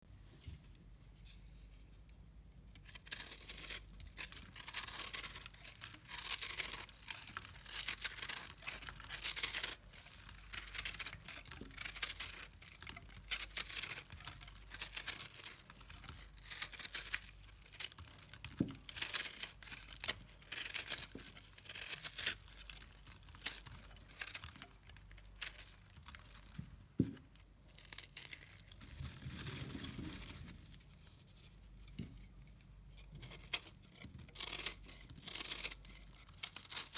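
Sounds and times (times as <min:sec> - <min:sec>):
dry soap crunching and crackling: 0:02.7 - 0:36.9.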